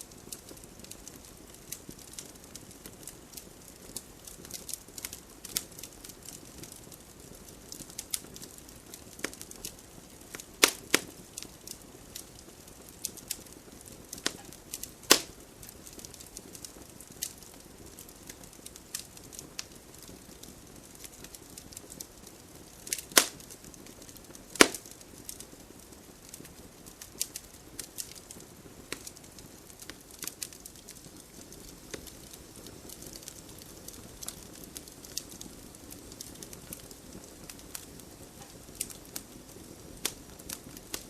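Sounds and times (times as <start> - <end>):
campfire crackling: 0.0 - 41.0
burning wood popping: 0.1 - 41.0.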